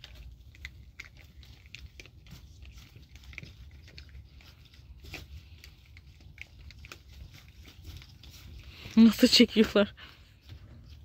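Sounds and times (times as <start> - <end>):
puppies chewing and tugging: 0.0 - 11.0.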